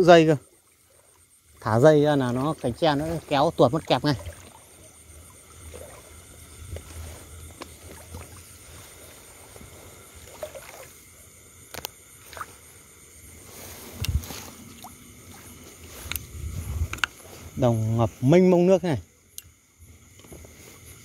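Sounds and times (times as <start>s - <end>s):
rustling of bamboo and grass: 0.7s - 18.8s, 19.7s - 21.0s.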